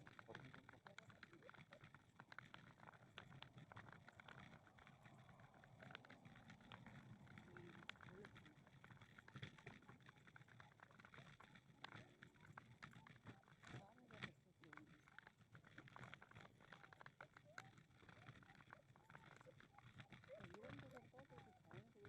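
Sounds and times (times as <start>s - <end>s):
outdoor background noise: 0.0s - 22.0s
small clicks: 0.0s - 22.0s.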